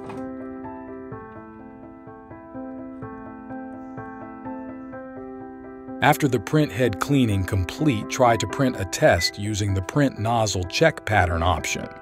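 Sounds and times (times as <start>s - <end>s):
soft keyboard chords: 0.0s - 12.0s.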